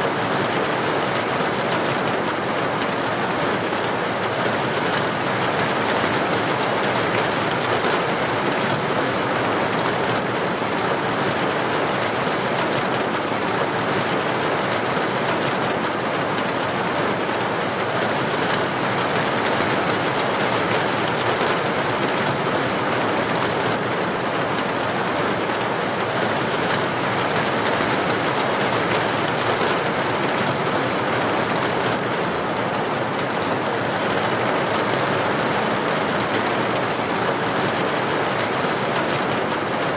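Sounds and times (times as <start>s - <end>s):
heavy rain on street: 0.0s - 39.9s.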